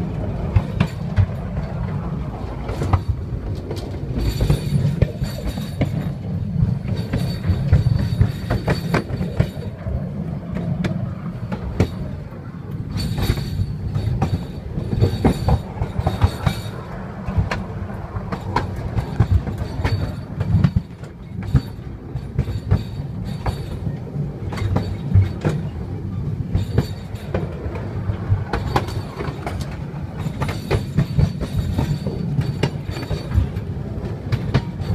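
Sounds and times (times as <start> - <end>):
electric train rumbling: 0.0 - 34.9
wheels clattering on rails: 0.0 - 34.9.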